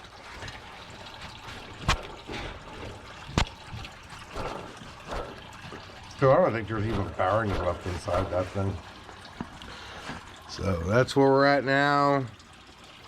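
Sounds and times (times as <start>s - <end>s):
coolant trickling and pouring: 0.0s - 13.0s.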